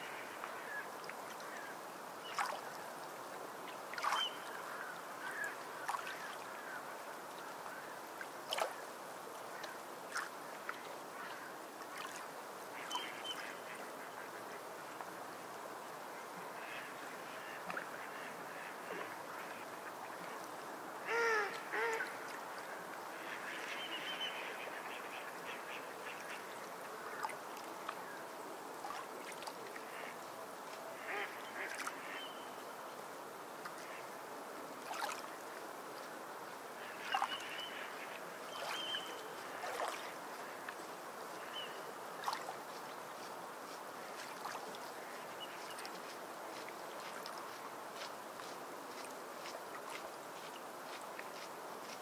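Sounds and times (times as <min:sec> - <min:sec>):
background hiss: 0:00.0 - 0:52.0.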